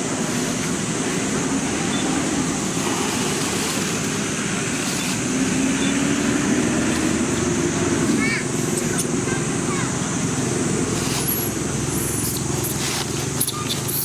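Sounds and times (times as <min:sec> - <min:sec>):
road traffic noise: 0:00.0 - 0:14.0
vehicle engine hum: 0:00.0 - 0:14.0.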